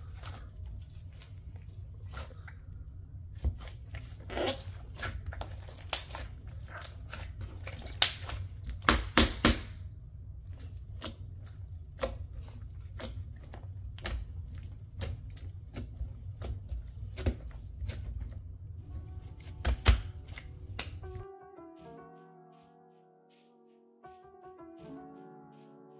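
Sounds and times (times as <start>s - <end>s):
low hum: 0.0s - 8.8s, 9.8s - 25.9s.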